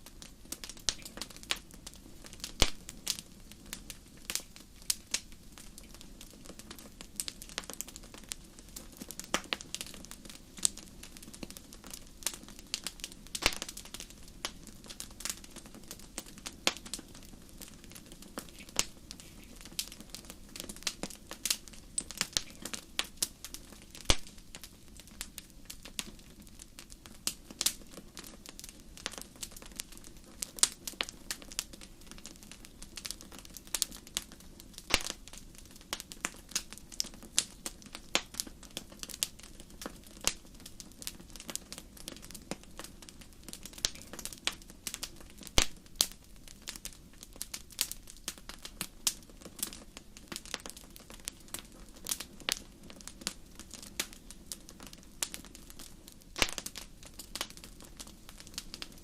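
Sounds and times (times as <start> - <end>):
wood fire pops and snaps: 0.1 - 59.0.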